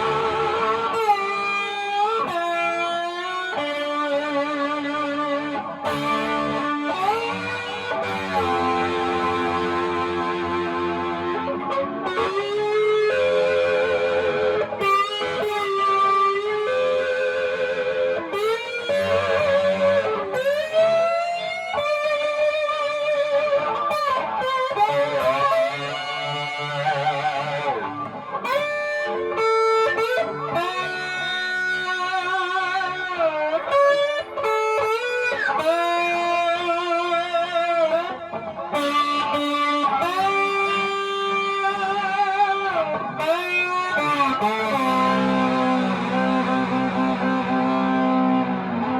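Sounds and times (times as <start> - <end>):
slide electric guitar: 0.0 - 48.9.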